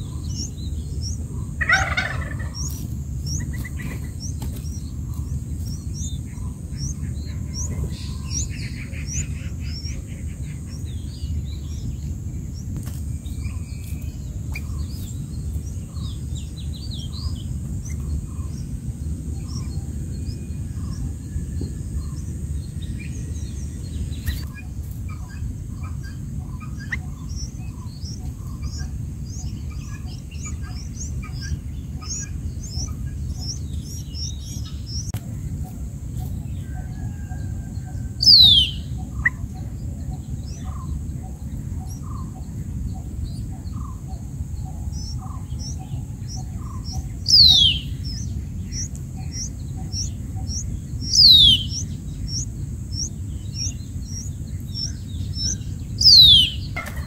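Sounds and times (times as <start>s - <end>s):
birds chirping: 0.0s - 57.0s
low background rumble: 0.0s - 57.0s.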